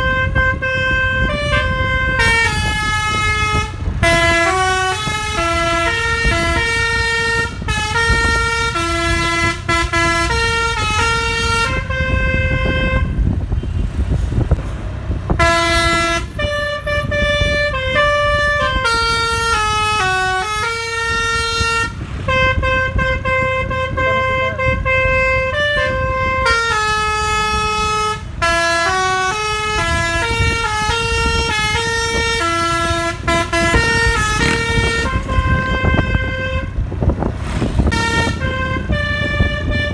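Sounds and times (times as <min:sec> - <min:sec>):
multi-tone air horn melody: 0:00.0 - 0:13.7, 0:15.3 - 0:39.9
steady low rumble: 0:00.0 - 0:39.9.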